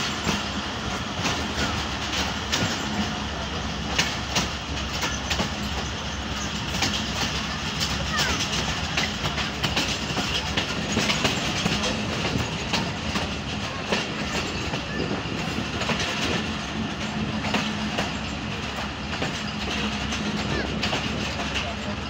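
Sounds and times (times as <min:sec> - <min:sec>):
train coach rumbling: 0:00.0 - 0:22.0
wheels clicking over rail joints: 0:00.0 - 0:22.0.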